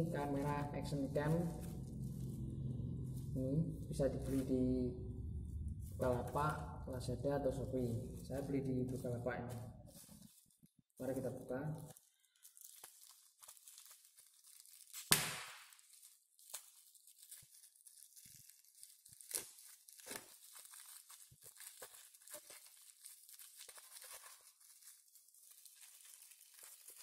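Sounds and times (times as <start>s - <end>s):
plastic wrapping tearing and crinkling: 0.0s - 27.0s.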